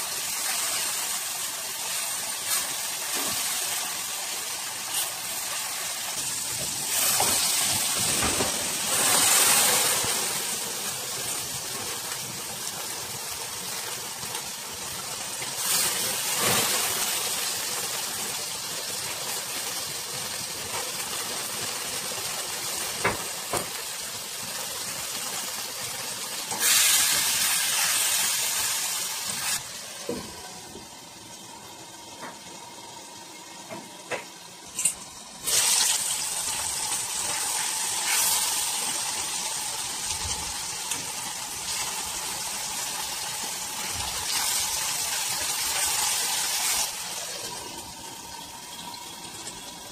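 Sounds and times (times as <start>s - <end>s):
meat sizzling in a frying pan: 0.0s - 30.1s, 34.8s - 49.9s.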